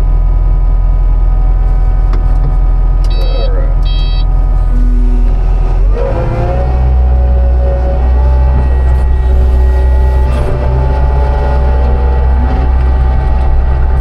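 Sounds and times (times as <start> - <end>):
heavy vehicle engine revving: 0.0 - 14.0.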